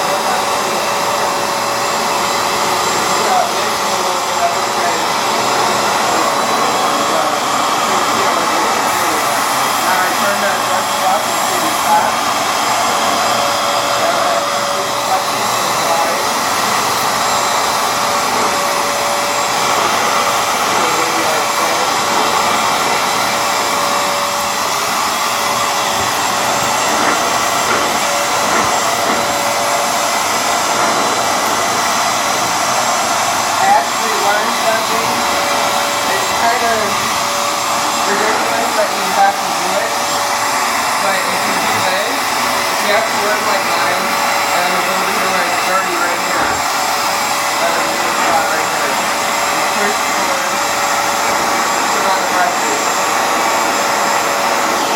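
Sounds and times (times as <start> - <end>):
floor cleaner motor humming: 0.0 - 54.9.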